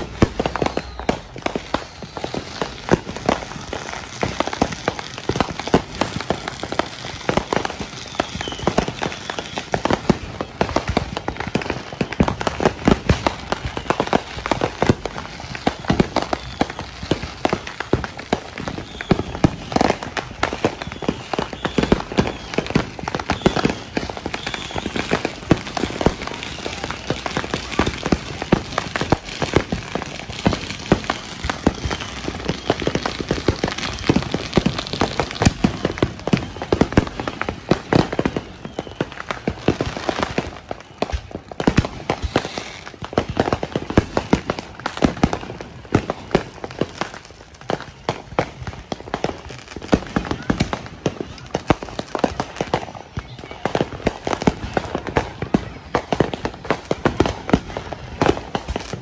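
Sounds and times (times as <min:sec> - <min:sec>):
fireworks and firecrackers banging: 0:00.0 - 0:59.0.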